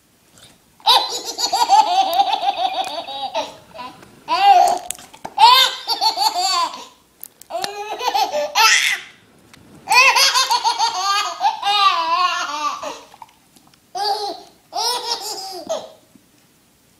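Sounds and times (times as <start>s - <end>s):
baby laughing: 0.8s - 9.2s, 9.9s - 13.1s, 13.9s - 16.0s.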